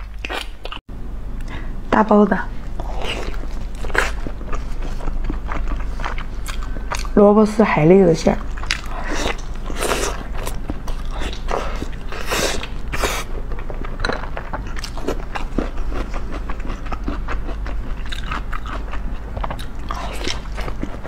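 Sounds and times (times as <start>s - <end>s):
biting and chewing: 2.8s - 7.2s, 8.4s - 21.0s.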